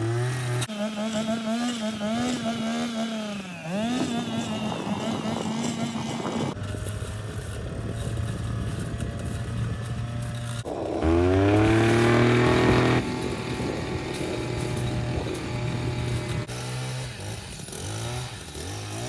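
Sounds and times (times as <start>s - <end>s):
engine running under load: 0.0s - 19.0s.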